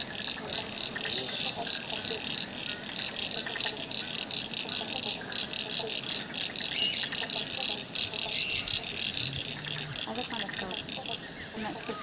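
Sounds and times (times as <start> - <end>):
bird chirp: 0.0 - 12.0
frogs calling in chorus: 0.0 - 12.0
lower frog calls: 0.0 - 12.0.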